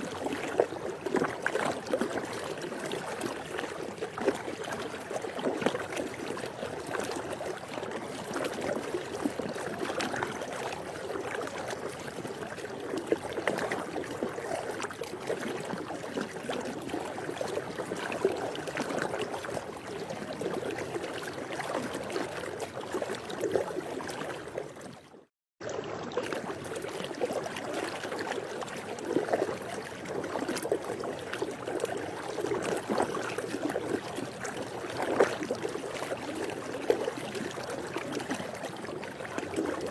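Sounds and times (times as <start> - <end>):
pool water lapping: 0.0 - 39.9.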